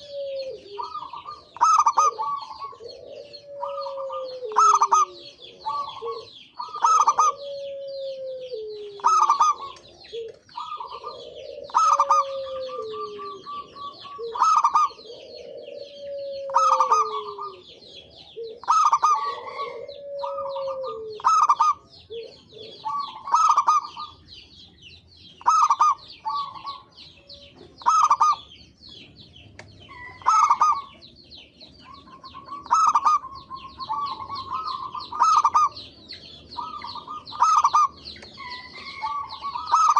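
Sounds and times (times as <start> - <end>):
birds chirping chatter: 0.0 - 39.9
dove cooing: 0.0 - 39.9.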